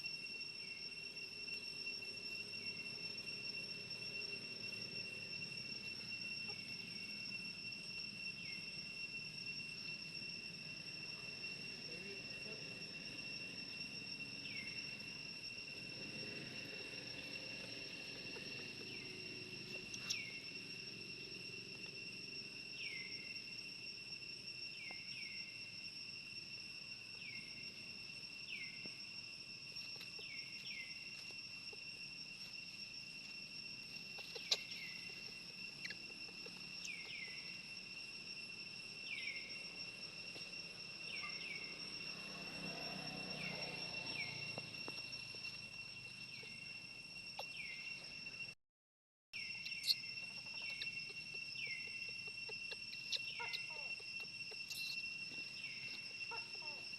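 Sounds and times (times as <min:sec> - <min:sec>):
high-pitched insect drone: 0:00.0 - 0:48.6, 0:49.4 - 0:56.9.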